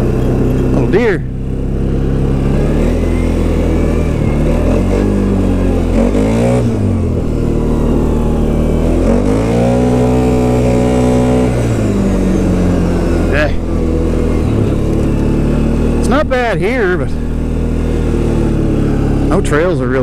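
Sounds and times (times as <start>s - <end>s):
off-road bike engine revving: 0.0s - 20.0s.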